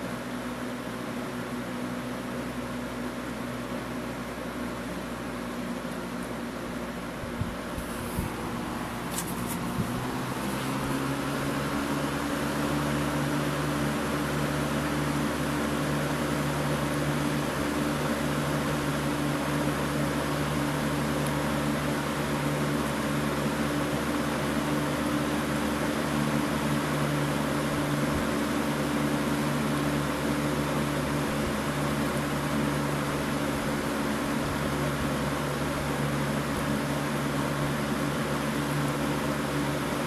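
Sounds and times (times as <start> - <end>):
box fan motor humming: 0.0 - 40.0
rush of air from fan blades: 0.0 - 40.0.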